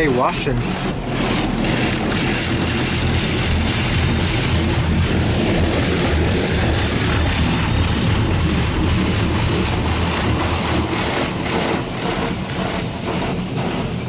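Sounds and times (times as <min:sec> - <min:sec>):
car wash machinery rushing: 0:00.0 - 0:14.0.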